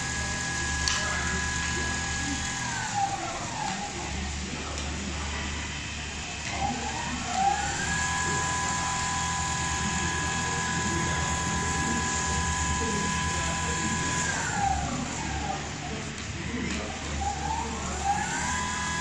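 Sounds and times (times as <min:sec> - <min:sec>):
sewing machine motor whine: 0:00.0 - 0:19.0.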